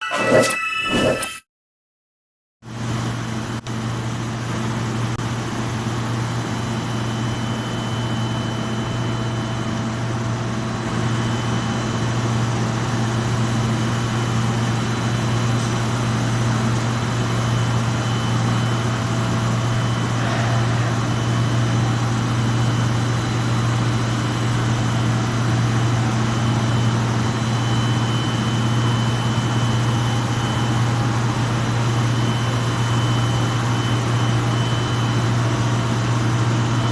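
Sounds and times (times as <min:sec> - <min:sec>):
low machine hum: 0:02.8 - 0:36.9.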